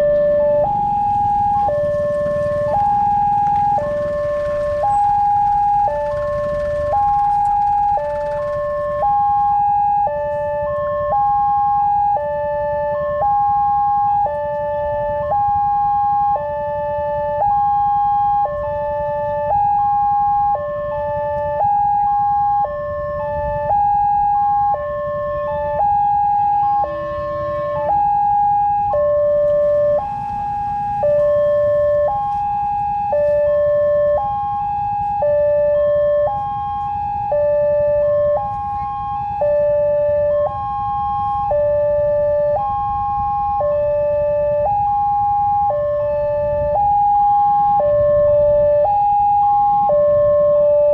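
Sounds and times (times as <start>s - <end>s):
level crossing two-tone siren: 0.0s - 50.9s.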